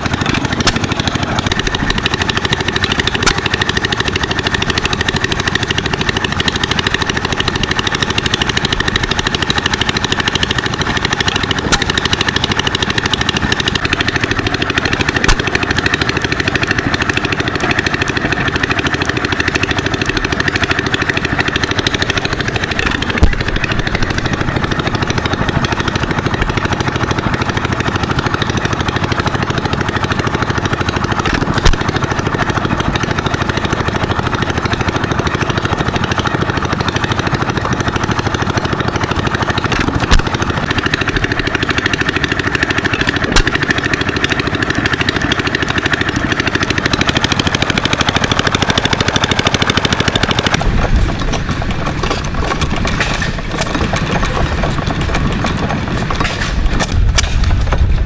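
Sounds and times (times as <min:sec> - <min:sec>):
din of engines: 0:00.0 - 0:58.0
engine pops: 0:00.0 - 0:58.0
single-cylinder engine running: 0:00.0 - 0:58.0.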